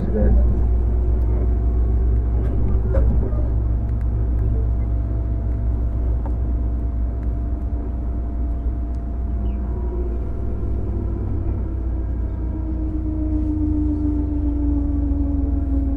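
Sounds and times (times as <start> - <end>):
electric train running: 0.0 - 15.8.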